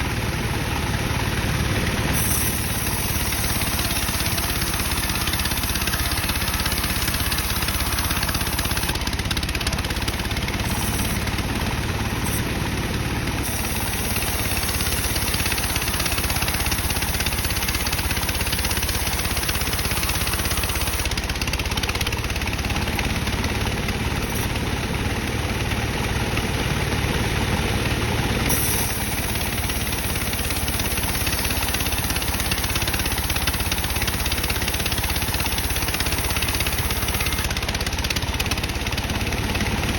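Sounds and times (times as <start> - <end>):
bandsaw sawing timber: 0.9 - 25.6, 26.2 - 39.9.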